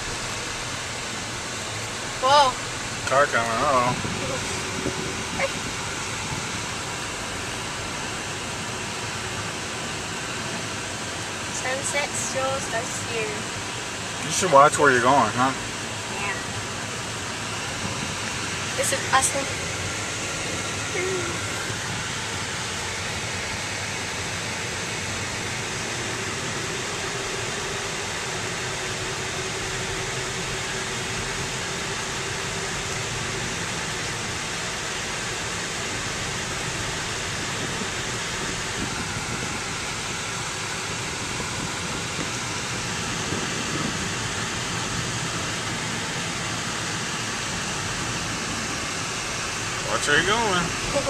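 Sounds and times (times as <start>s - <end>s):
car cabin road noise: 0.0s - 51.0s.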